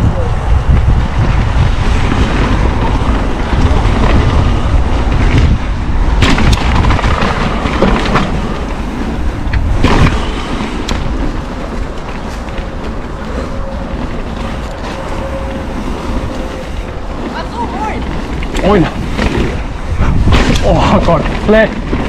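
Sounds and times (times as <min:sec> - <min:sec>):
bike rattling: 0:00.0 - 0:22.0
bike tyres rolling on dirt: 0:00.0 - 0:22.0
wind rumble on microphone: 0:00.0 - 0:22.0.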